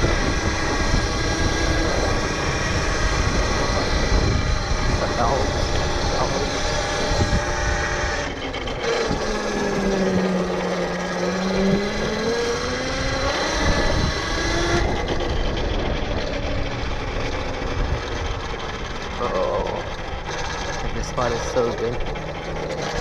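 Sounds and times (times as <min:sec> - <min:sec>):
wind rushing across microphone: 0:00.0 - 0:22.0
electric motor whining: 0:00.0 - 0:23.0.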